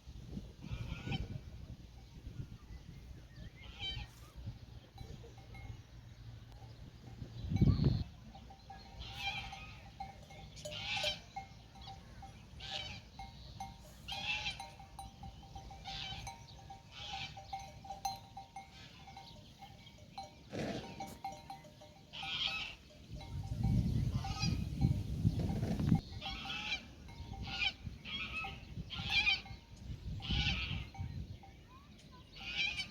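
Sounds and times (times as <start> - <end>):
livestock bells clanking: 4.8 - 32.2.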